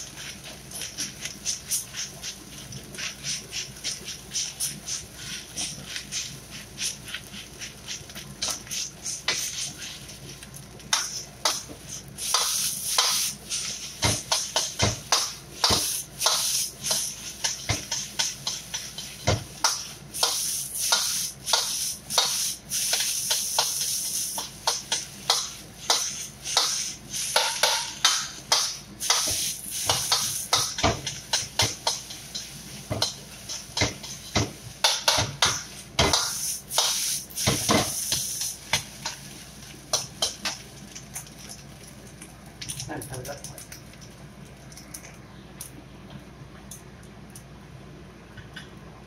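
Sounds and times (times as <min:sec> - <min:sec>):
rice sizzling: 0:00.0 - 0:44.6.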